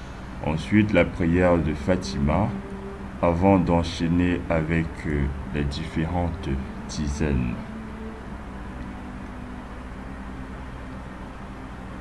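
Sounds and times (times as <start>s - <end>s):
faint low tones: 0.0s - 12.0s
low hum with hiss: 0.0s - 12.0s.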